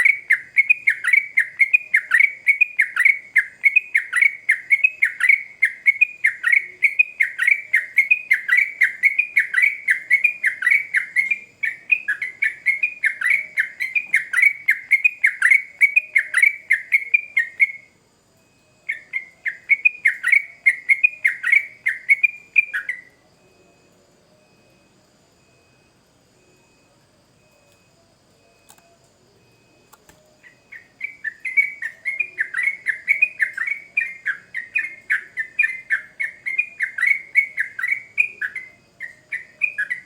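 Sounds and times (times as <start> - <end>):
bird singing rapid chirps: 0.0 - 17.9, 18.8 - 23.2, 29.5 - 40.0.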